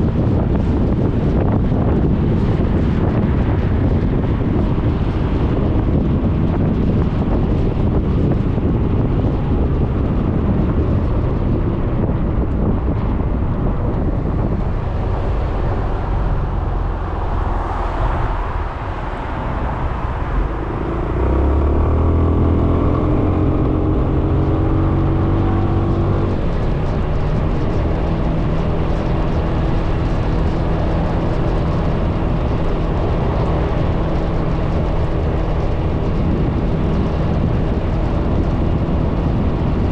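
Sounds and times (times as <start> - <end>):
scooter engine drone: 0.0 - 39.9
wind and road noise: 0.0 - 39.9.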